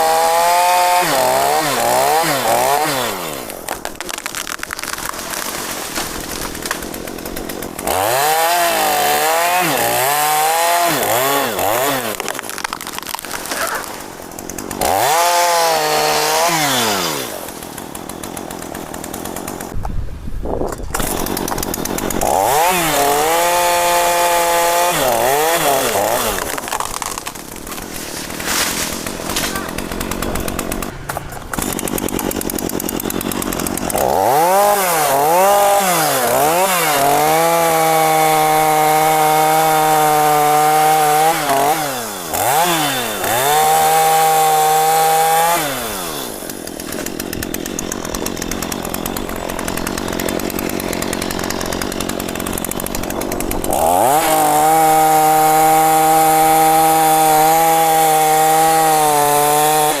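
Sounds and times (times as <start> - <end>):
chainsaw cutting and revving: 0.0 - 19.8, 20.8 - 60.0.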